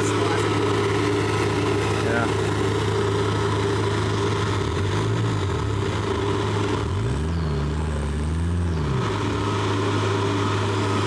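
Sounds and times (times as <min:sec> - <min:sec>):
vehicle engine: 0:00.0 - 0:11.0.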